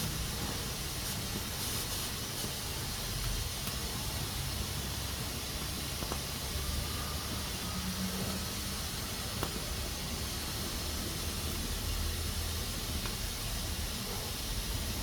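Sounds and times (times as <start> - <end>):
pressure cooker hissing: 0.0 - 15.0.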